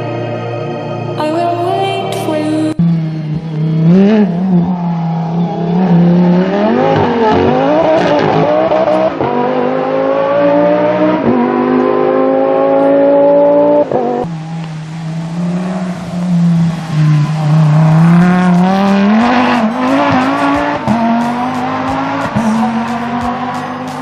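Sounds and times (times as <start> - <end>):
race car engine accelerating: 2.8 - 24.0.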